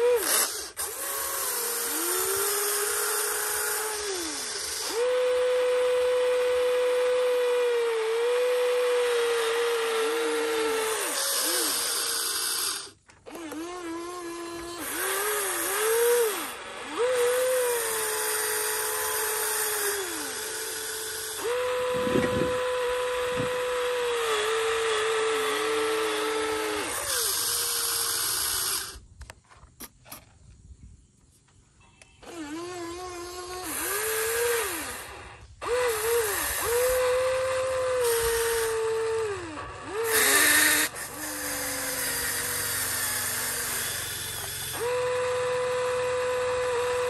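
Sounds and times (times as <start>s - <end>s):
electric gear motors whining: 0.0s - 30.2s, 32.2s - 47.0s.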